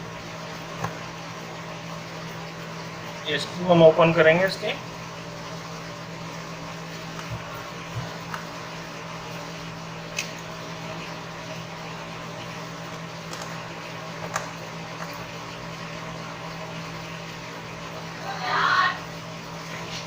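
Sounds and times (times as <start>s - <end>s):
steady fan hum: 0.0s - 20.0s.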